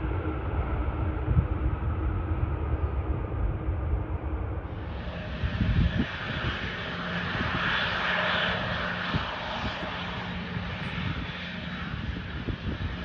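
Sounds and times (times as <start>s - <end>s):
jet engines running: 0.0s - 13.0s
wind buffeting microphone: 0.0s - 13.0s.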